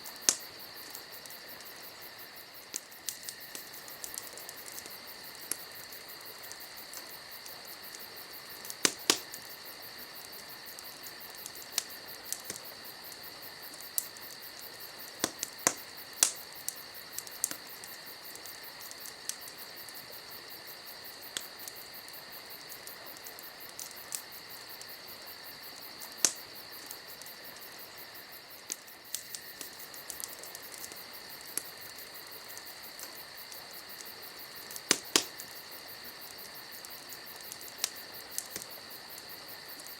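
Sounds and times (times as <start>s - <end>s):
campfire crackling and popping: 0.0s - 39.9s
crickets chirring: 0.0s - 39.9s.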